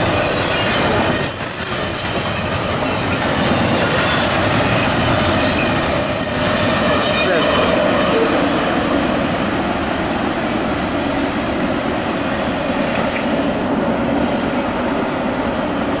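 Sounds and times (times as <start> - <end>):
train cars rolling on rails: 0.0 - 16.0.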